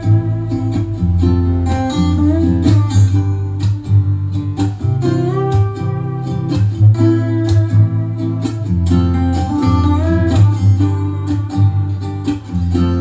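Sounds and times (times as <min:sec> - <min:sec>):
bass line: 0:00.0 - 0:13.0
guitar plucked and strummed: 0:00.0 - 0:13.0.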